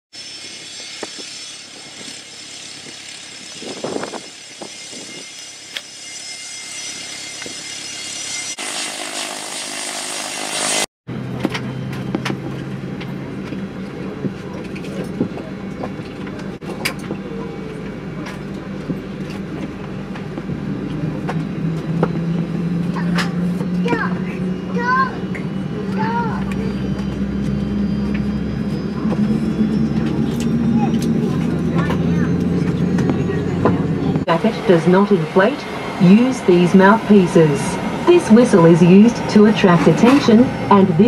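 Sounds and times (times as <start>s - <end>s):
jet engines whining: 0.2s - 41.0s.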